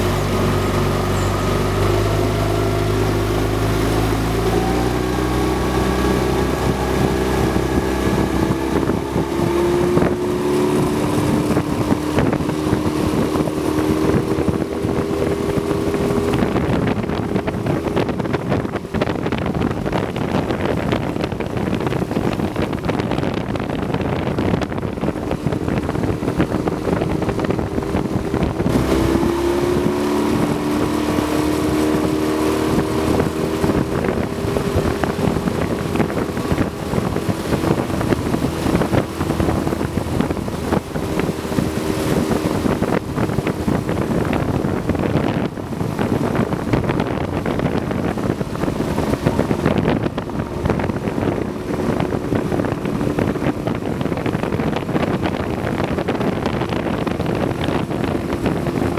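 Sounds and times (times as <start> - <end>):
outboard motor droning: 0.0 - 58.9
wind noise on microphone: 0.0 - 58.9.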